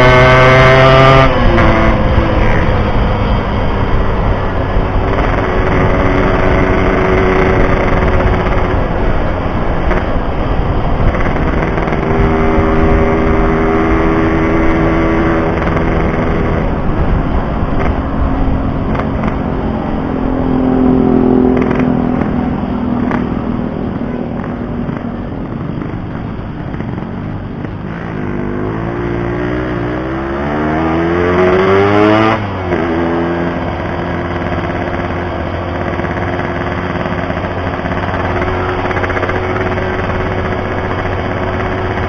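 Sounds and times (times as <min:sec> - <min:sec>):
motorcycle engine revving: 0:00.0 - 0:42.0
wind and road noise: 0:00.0 - 0:42.0.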